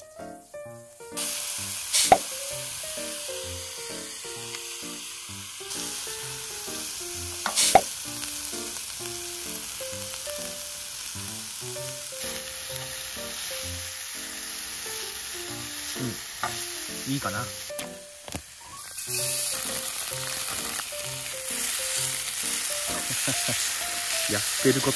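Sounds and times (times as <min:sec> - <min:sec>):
background tune: 0:00.0 - 0:24.9
vegetables sizzling in oil: 0:00.0 - 0:24.9.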